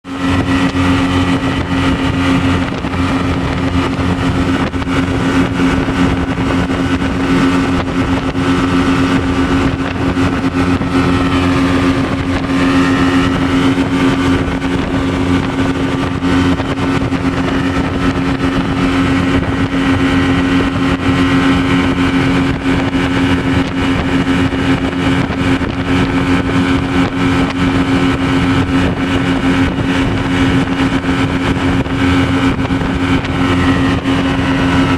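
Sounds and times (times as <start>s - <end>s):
rushing water noise: 0.0s - 34.9s
speedboat engine droning: 0.0s - 34.9s.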